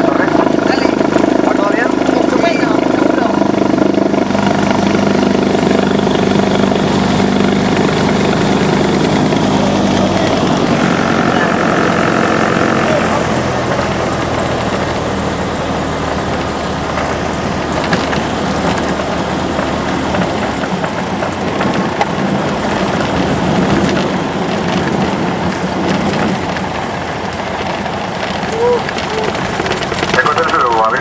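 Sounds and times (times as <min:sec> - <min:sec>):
aircraft engine and propeller running: 0:00.0 - 0:31.0.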